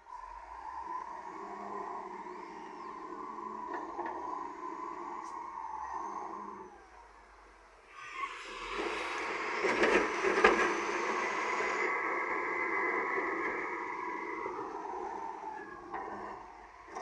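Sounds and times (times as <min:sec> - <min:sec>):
earthmoving machine engine: 0:00.0 - 0:17.0.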